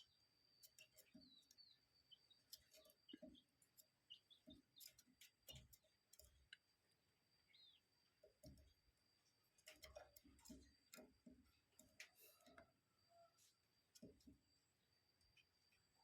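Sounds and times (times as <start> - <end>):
bird chirp: 0.0 - 16.0
faint clicks and ticks: 0.0 - 16.0.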